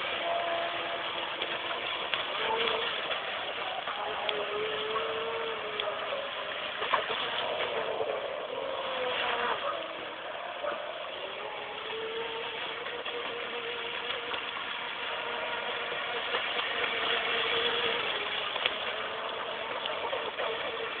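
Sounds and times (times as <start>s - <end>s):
toy boat motor whine: 0.0s - 21.0s.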